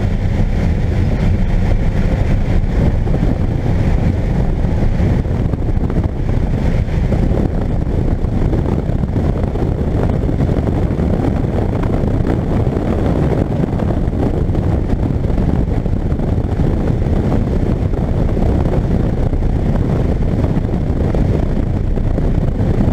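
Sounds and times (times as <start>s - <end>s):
sports car engine at high revs: 0.0s - 22.9s
wind and road noise: 0.0s - 22.9s.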